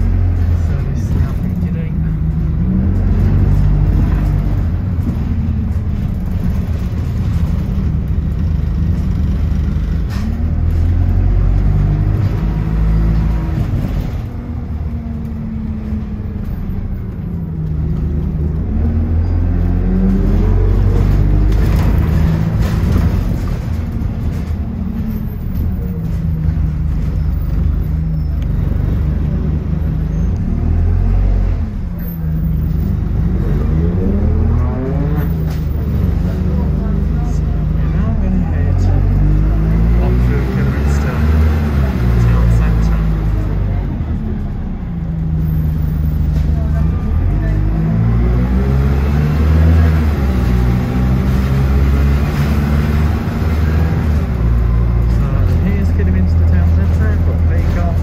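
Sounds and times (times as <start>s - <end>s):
bus engine rumbling: 0.0s - 58.0s.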